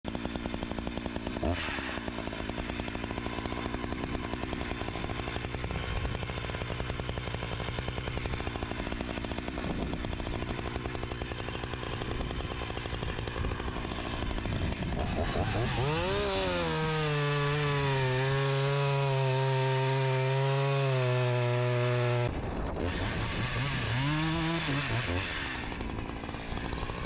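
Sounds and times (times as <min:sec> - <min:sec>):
chainsaw idling: 0:00.1 - 0:27.0.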